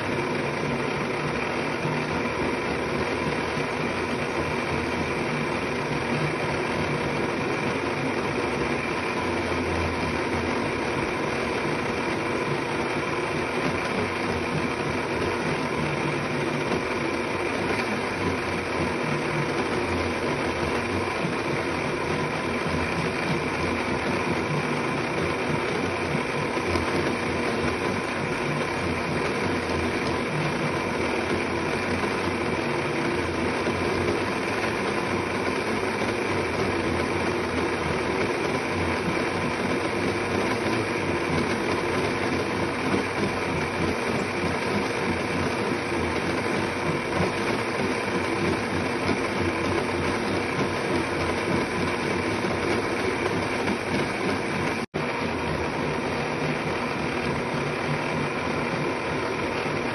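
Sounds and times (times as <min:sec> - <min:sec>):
blender motor whirring: 0:00.0 - 0:59.9.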